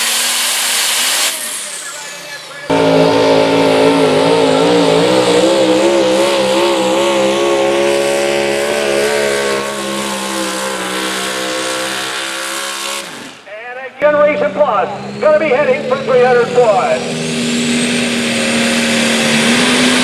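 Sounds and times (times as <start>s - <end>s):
truck engine at full throttle: 0.0s - 20.0s.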